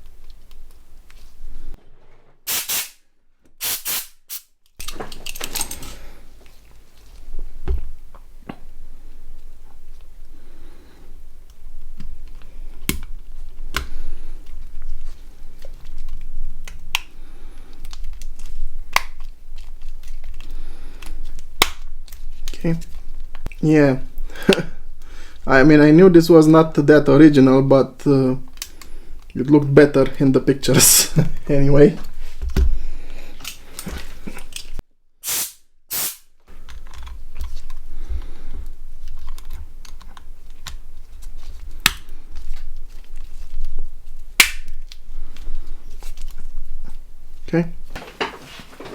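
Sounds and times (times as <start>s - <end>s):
low steady hum: 4.8s - 34.8s, 36.5s - 48.8s.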